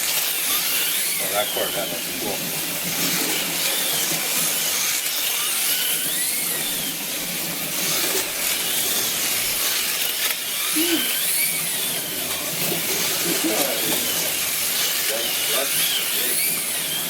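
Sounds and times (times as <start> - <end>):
slot car motors whining: 0.0 - 17.0.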